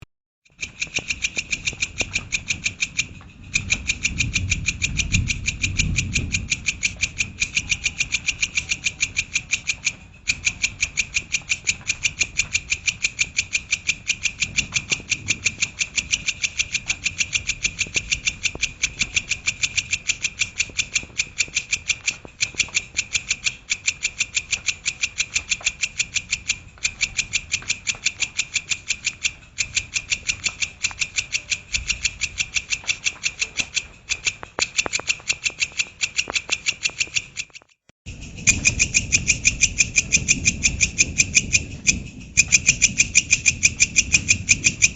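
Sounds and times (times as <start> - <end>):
insect chirping: 0.5 - 44.9.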